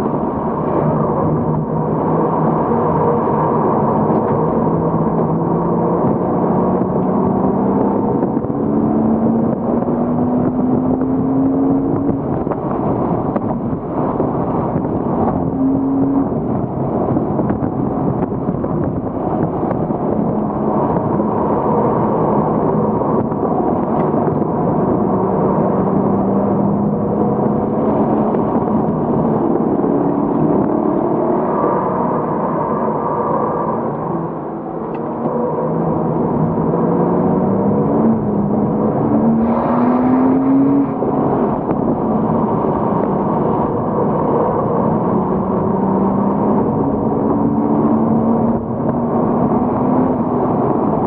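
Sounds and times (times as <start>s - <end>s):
car engine running hard: 0.0s - 51.0s.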